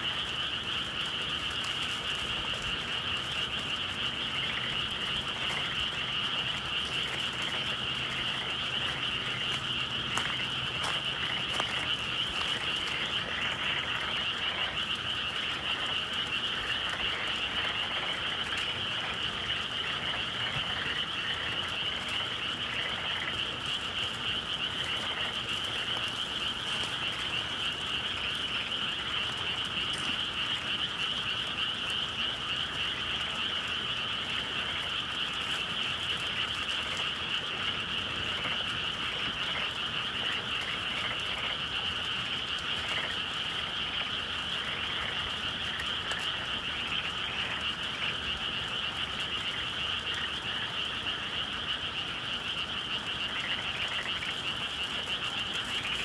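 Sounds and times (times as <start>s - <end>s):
frogs chorus trilling: 0.0s - 56.0s.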